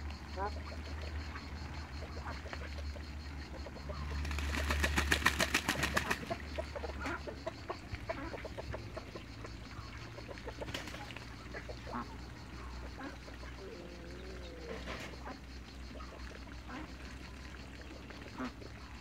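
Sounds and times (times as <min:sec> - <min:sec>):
fowl clucking and peeping: 0:00.2 - 0:04.8, 0:05.6 - 0:16.9.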